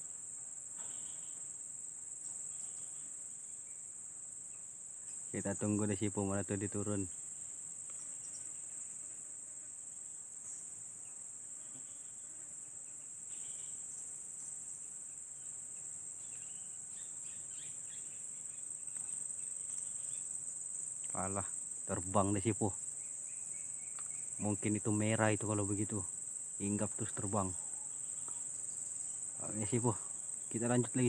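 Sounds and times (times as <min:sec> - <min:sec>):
insect chorus drone: 0:00.0 - 0:31.0.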